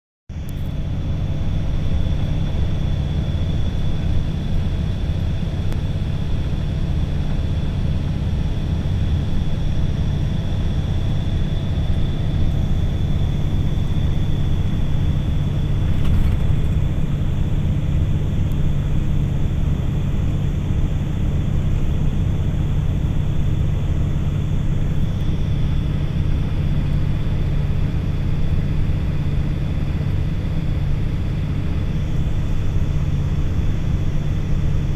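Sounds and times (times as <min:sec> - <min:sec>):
constant hum: 0:00.3 - 0:34.9
low mechanical rumble: 0:00.3 - 0:34.9.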